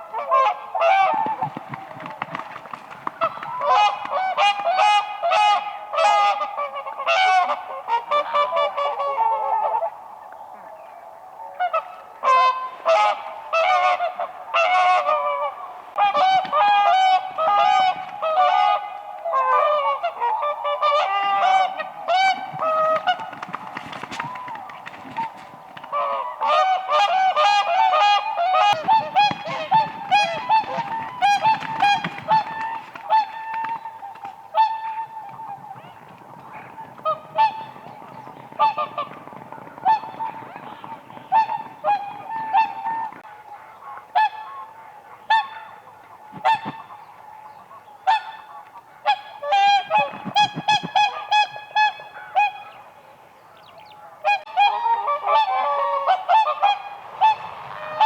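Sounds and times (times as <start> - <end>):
swans calling: 0.0 - 58.0.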